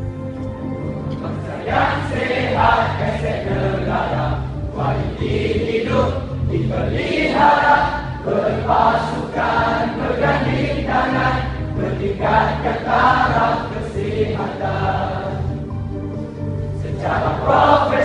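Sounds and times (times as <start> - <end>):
musical accompaniment with bass notes: 0.0 - 18.0
large choir singing: 0.6 - 18.0.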